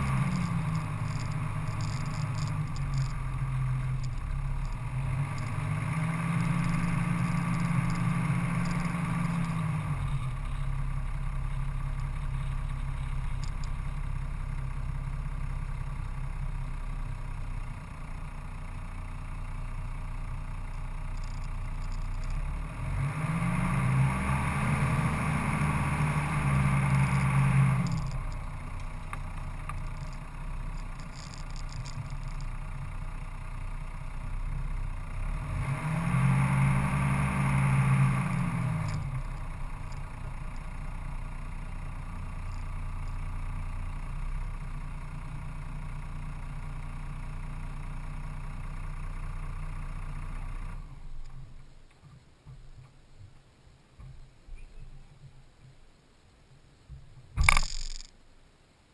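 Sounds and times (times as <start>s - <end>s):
off-road vehicle engine revving: 0.0s - 18.6s, 19.2s - 51.0s.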